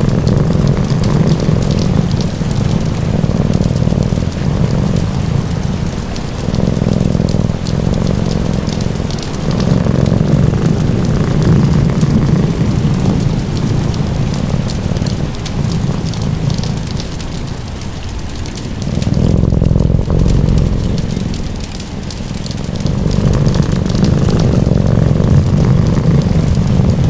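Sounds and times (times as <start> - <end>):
cat purring: 0.0 - 27.0
fireplace fire crackling: 0.0 - 27.0
steady rain: 0.0 - 27.0.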